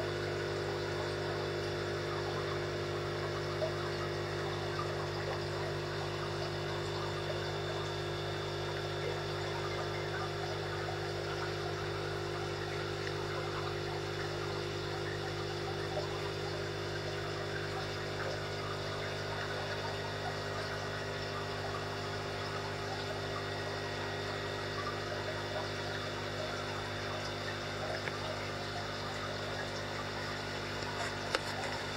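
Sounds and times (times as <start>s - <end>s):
aquarium filter pump humming: 0.0s - 31.9s
water trickling and bubbling: 0.0s - 31.9s.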